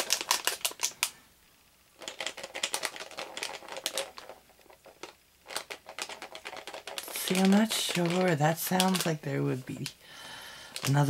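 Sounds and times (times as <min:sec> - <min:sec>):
plastic figure rattling in foil bag: 0:00.0 - 0:01.1, 0:02.0 - 0:10.0, 0:10.7 - 0:11.0.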